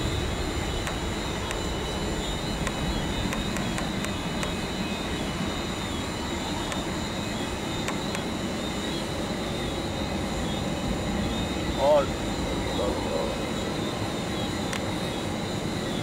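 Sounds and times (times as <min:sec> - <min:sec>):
jet engines rumbling with whine: 0:00.0 - 0:16.0.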